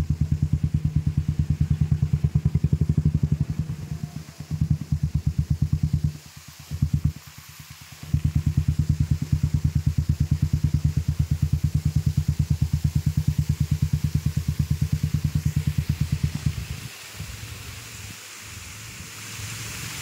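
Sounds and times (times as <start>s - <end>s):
engine pulsing: 0.0s - 20.0s.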